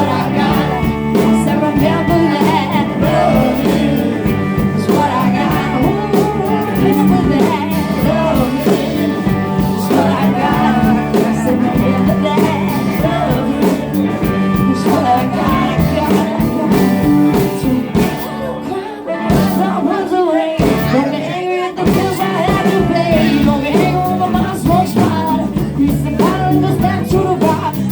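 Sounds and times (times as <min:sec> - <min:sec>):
drums beating: 0:00.0 - 0:18.3, 0:19.3 - 0:19.9, 0:20.6 - 0:21.1, 0:21.8 - 0:27.9
bass guitar: 0:00.0 - 0:27.9
electric guitar: 0:00.0 - 0:27.9
person singing: 0:00.0 - 0:27.9.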